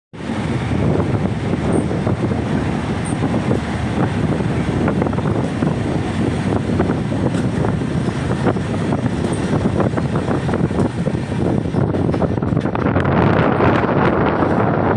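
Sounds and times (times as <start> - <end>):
moving train noise: 0.1 - 14.9.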